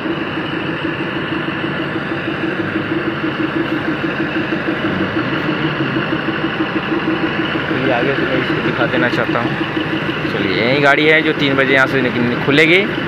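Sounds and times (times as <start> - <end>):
train power car humming: 0.0 - 13.0.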